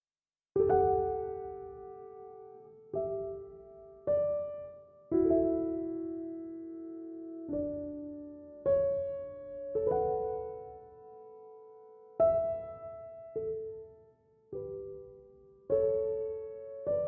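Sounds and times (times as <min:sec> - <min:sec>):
slow gentle piano: 0:00.6 - 0:17.0.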